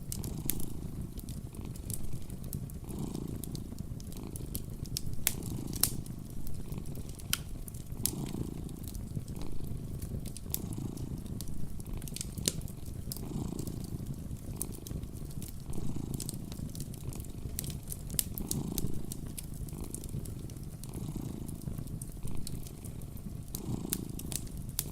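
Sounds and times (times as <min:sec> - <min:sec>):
cat purring: 0:00.0 - 0:24.9
wood fire crackling: 0:00.0 - 0:24.9.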